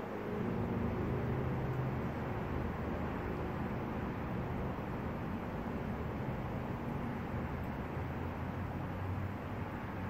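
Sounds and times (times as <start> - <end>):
deep white noise hiss: 0.0 - 10.0.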